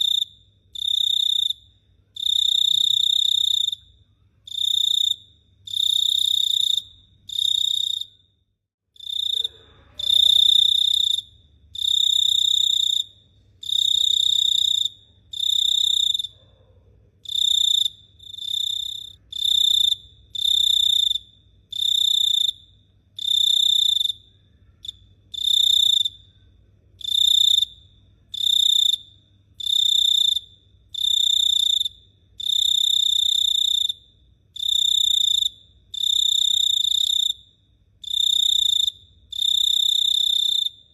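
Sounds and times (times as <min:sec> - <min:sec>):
cricket chirping: 0:00.0 - 0:08.4, 0:09.0 - 0:40.9.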